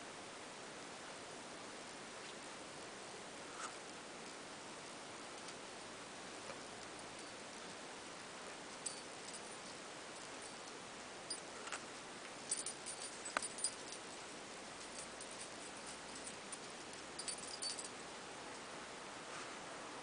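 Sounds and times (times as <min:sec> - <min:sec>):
faint movement sounds: 0:01.7 - 0:20.0.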